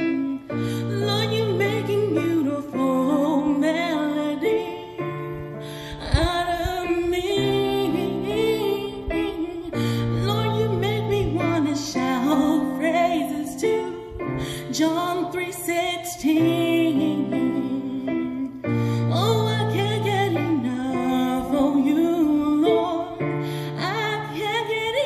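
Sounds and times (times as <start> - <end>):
woman singing with vibrato: 0.0 - 25.0.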